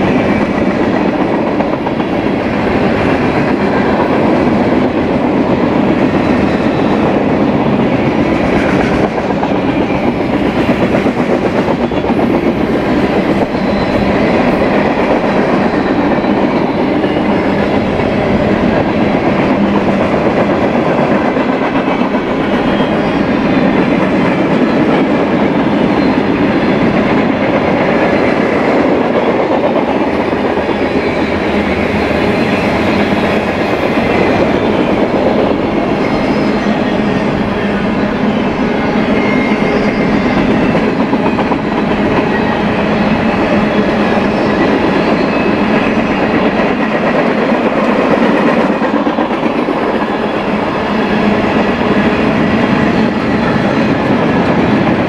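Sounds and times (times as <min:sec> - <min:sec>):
clatter of passing train cars: 0:00.0 - 0:55.0
steel wheels running on rails: 0:00.0 - 0:55.0.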